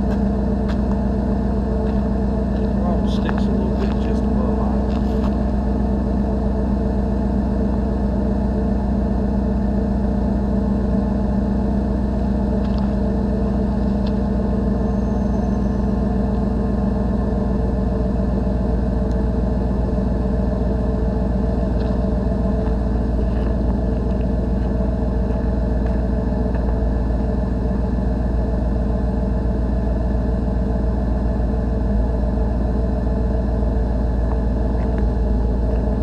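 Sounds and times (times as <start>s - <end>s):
pickup engine idling: 0.0s - 36.0s.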